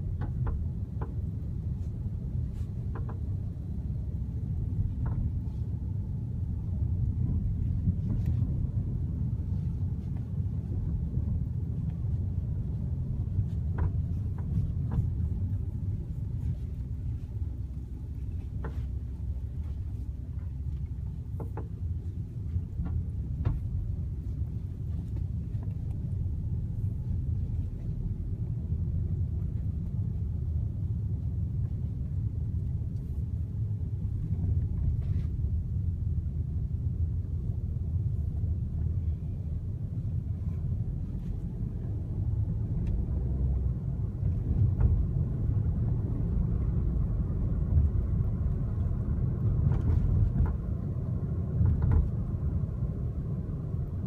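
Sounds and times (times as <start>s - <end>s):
car rumble: 0.0s - 54.0s.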